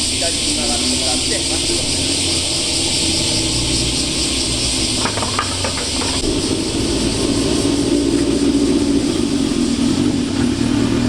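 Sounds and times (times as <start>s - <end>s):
car exhaust rumbling: 0.0s - 11.0s
steady hiss: 0.0s - 11.0s.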